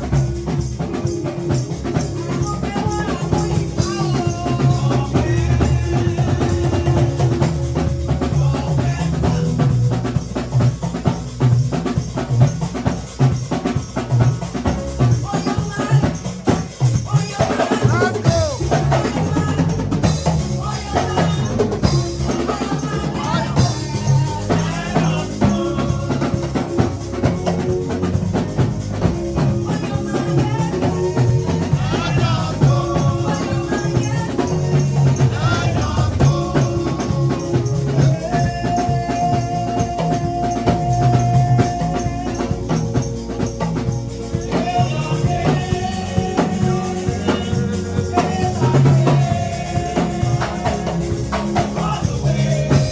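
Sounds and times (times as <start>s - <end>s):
people singing: 0.0s - 11.3s, 12.6s - 52.9s
bass: 0.0s - 52.9s
drum kit: 0.0s - 52.9s
tambourine: 0.0s - 52.9s.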